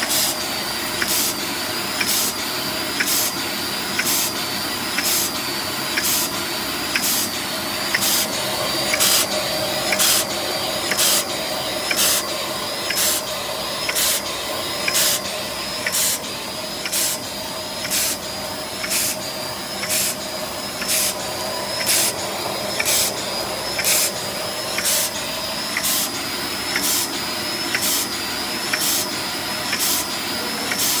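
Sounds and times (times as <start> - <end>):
machine mechanical hum: 0.0 - 31.0.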